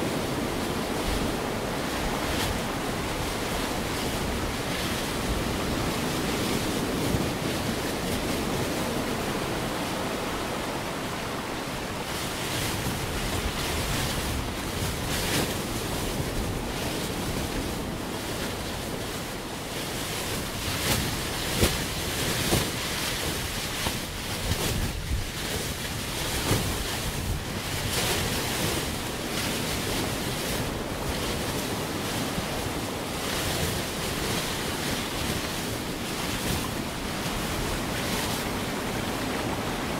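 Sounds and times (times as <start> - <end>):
ocean waves surging: 0.0 - 39.9
wind: 0.0 - 39.9.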